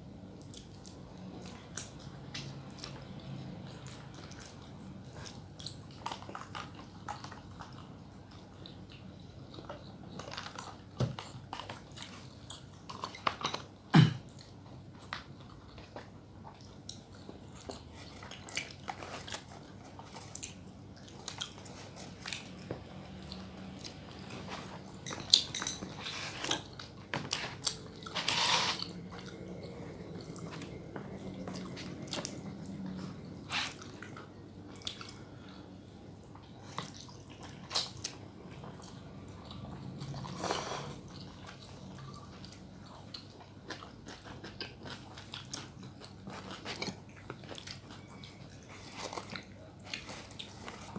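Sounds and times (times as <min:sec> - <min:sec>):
person chewing crunchy food: 0:00.4 - 0:50.9.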